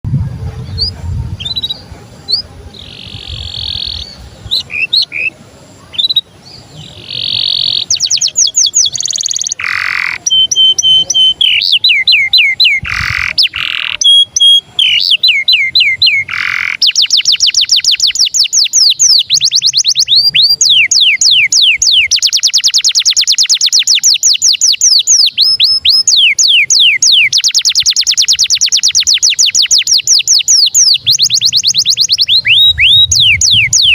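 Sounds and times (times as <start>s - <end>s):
canary singing: 0.6s - 33.9s.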